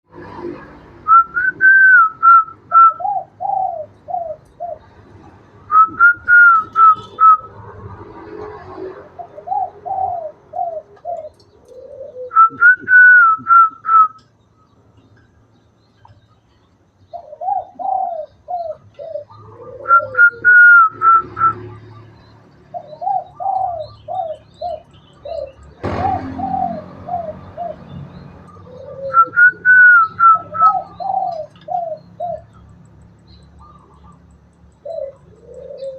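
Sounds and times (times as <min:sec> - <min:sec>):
dove cooing: 0:00.2 - 0:14.1, 0:17.1 - 0:32.8, 0:33.6 - 0:35.9.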